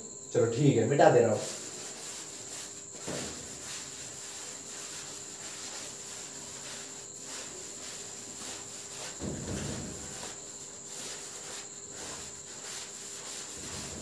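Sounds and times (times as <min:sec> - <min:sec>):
duster wiping blackboard: 0:01.0 - 0:14.0.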